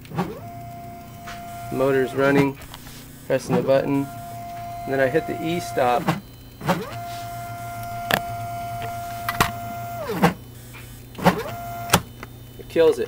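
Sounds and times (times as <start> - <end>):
sharp clicks: 0.0 - 12.4
low electrical hum: 0.0 - 13.0
stepper motors whining: 0.0 - 13.0.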